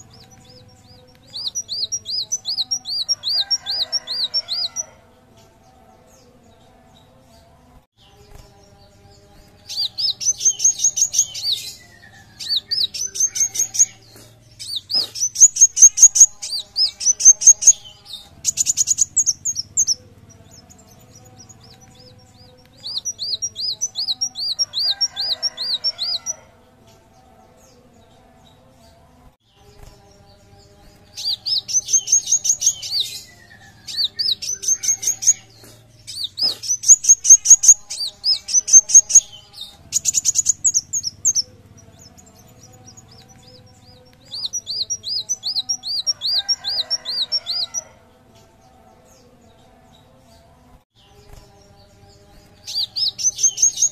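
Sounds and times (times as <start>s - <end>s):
sunbird singing high chirps: 0.0s - 5.0s, 8.0s - 26.4s, 29.5s - 47.9s, 51.0s - 53.9s.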